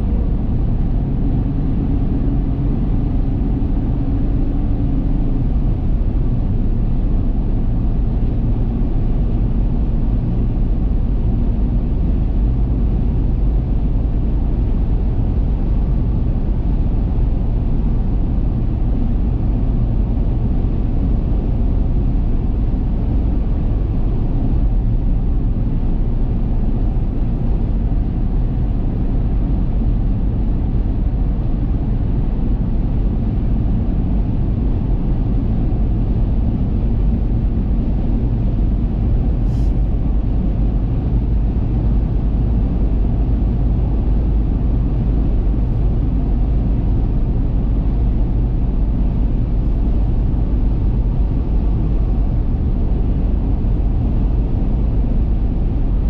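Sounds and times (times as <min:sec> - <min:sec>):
car engine hum: 0:00.0 - 0:56.0.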